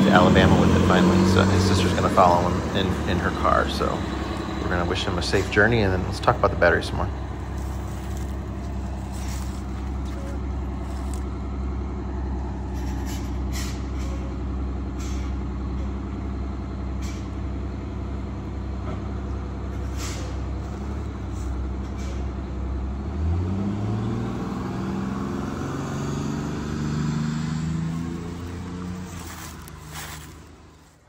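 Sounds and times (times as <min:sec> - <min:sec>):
diesel bus engine accelerating: 0:00.0 - 0:31.0.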